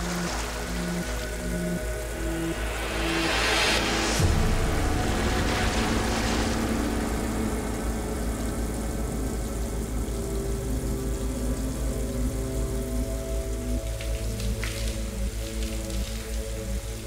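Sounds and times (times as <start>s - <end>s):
hiss: 0.0s - 17.0s
low pulsing suspense drone: 0.0s - 17.0s.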